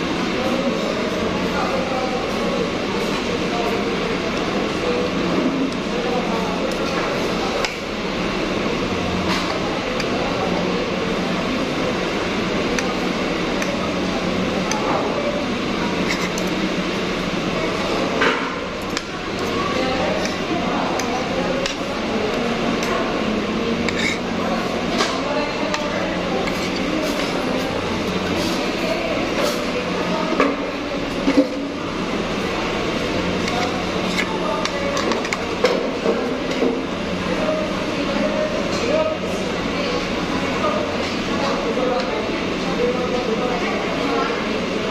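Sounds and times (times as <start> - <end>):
air conditioning hum: 0.0 - 44.9
murmur of voices: 0.0 - 44.9.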